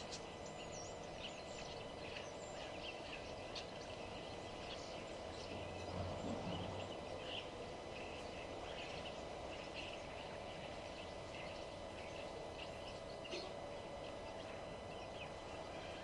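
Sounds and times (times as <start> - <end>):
wild birds chirping: 0.0 - 16.0.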